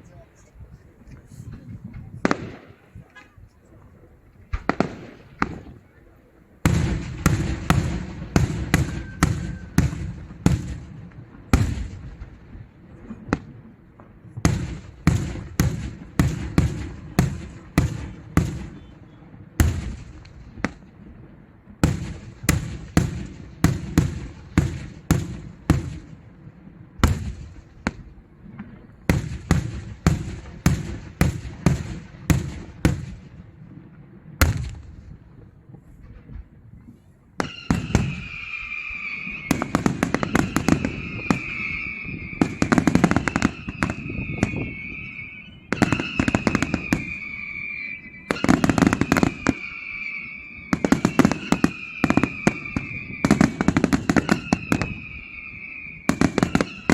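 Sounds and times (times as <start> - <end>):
fireworks sharp bangs: 1.4 - 3.6, 4.5 - 56.9.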